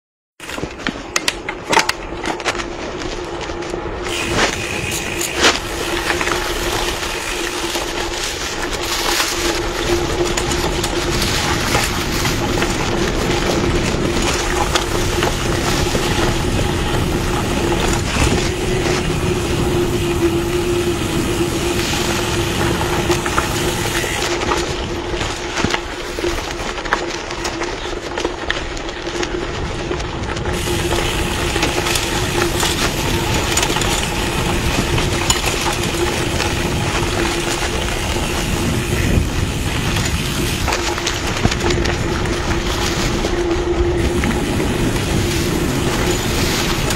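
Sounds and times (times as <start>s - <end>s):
bike knocks and rattles: 0.4s - 46.9s
bike tyre rumble over dirt: 0.4s - 46.9s
wind on microphone: 2.7s - 46.9s.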